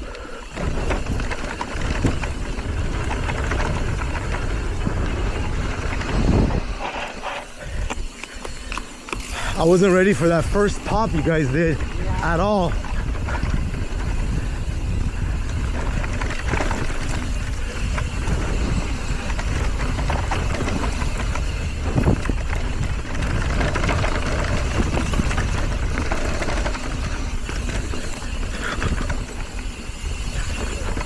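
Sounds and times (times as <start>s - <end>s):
bike tyre noise: 0.0s - 31.0s
wind rush on microphone: 0.0s - 31.0s
bike knocking and rattling: 0.1s - 31.0s.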